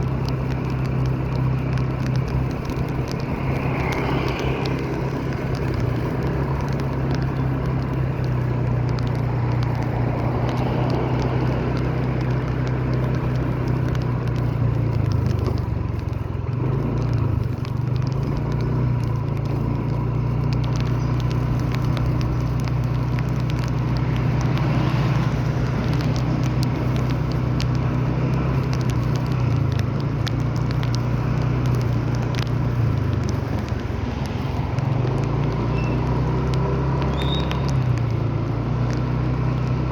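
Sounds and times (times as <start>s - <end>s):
light ticks: 0.0s - 39.9s
rain patter: 0.0s - 39.9s
vehicle engine running: 0.0s - 39.9s.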